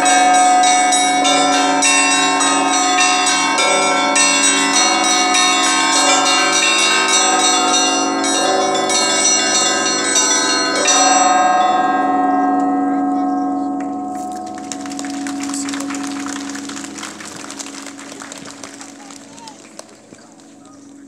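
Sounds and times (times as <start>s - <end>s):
small bells rapid rhythm: 0.0s - 12.4s, 14.0s - 21.0s
deep ringing large bells: 0.0s - 21.0s.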